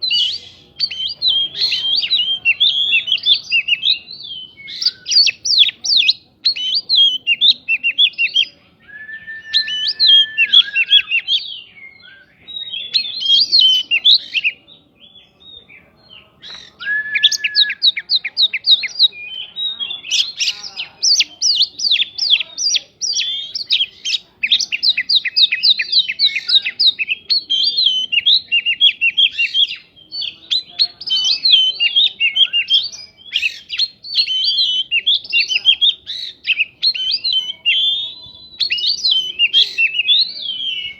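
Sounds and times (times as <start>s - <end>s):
songbird chattering song: 0.0s - 40.9s.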